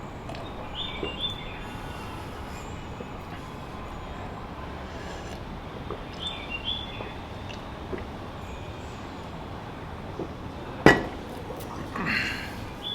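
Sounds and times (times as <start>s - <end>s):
steady background noise: 0.0s - 12.9s.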